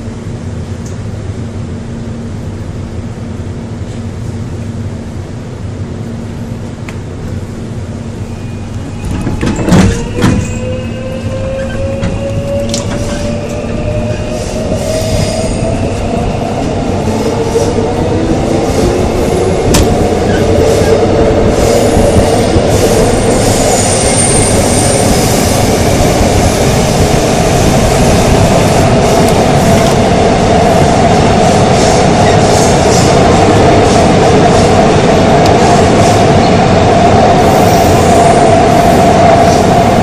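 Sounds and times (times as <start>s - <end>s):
train inverter whine: 0.0s - 40.0s
train motors and wheels running: 0.0s - 40.0s.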